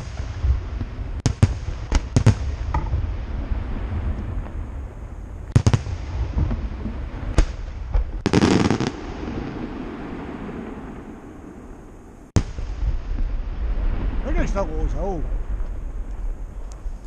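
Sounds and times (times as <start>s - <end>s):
fireworks bangs: 0.0s - 17.0s
fireworks crackling: 0.0s - 17.0s
low rumble: 0.0s - 17.0s.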